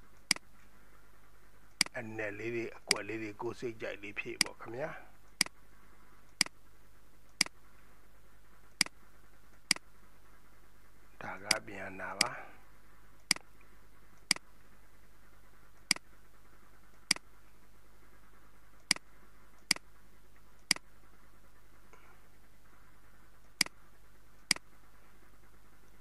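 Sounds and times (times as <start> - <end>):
faint background hiss: 0.0 - 26.0.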